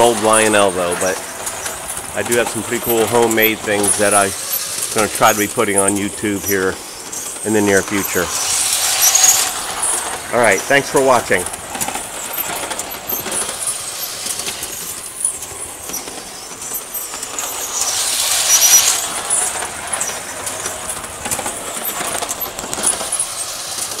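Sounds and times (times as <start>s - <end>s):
model trolley rattling on track: 0.0s - 24.0s.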